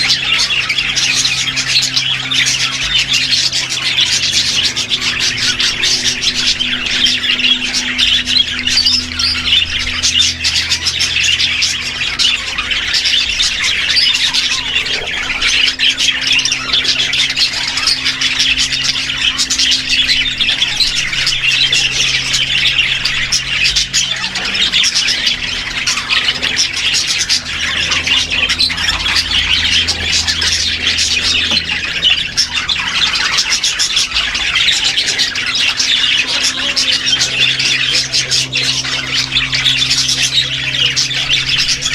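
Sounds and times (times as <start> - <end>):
low steady hum: 0.0 - 41.9
parrots chattering and squawking: 0.0 - 41.9.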